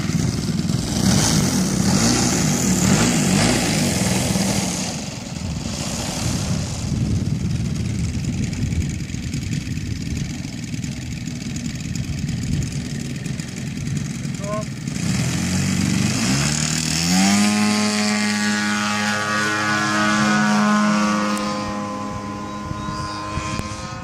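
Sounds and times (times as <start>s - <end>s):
model plane engine running: 0.0s - 24.0s.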